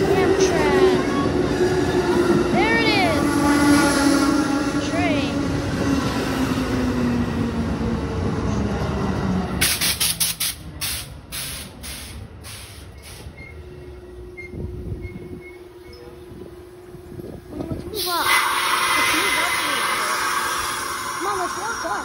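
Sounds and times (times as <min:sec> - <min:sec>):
train humming: 0:00.0 - 0:22.0
train wheels rumbling: 0:00.0 - 0:22.0.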